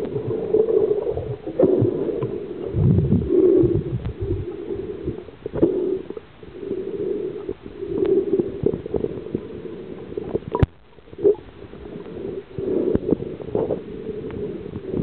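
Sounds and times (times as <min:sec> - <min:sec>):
muffled gurgling water: 0:00.0 - 0:15.0.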